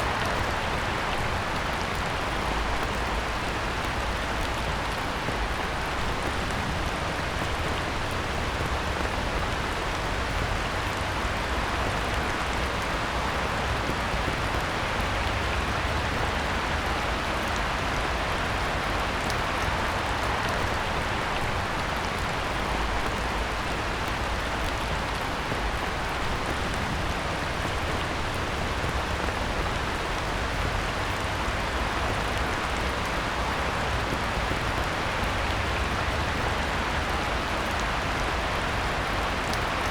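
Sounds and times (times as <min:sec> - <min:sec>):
heavy rain on a pond: 0:00.0 - 0:39.9.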